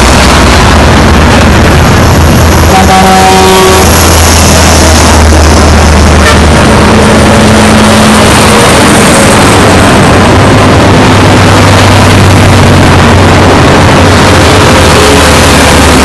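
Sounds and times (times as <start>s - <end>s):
truck engines droning: 0.0s - 16.0s
tyre and road noise: 0.0s - 16.0s.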